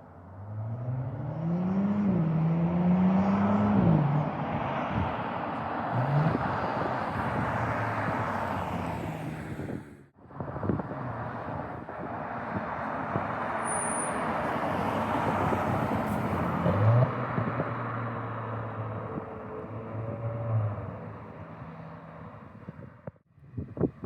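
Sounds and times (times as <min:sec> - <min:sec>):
car engine and exhaust: 0:00.0 - 0:24.0
road noise: 0:00.0 - 0:24.0.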